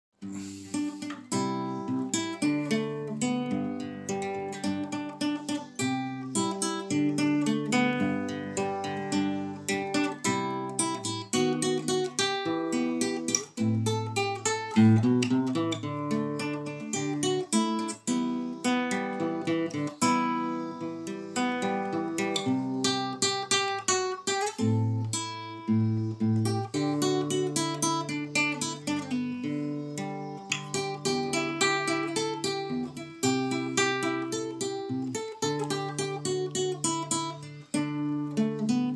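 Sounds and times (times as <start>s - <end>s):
classical guitar melody: 0.2s - 38.9s.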